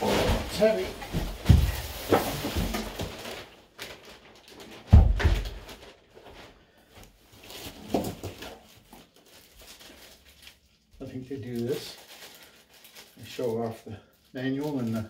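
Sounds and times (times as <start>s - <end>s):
plastic wrap and cardboard rustling: 0.0s - 15.0s.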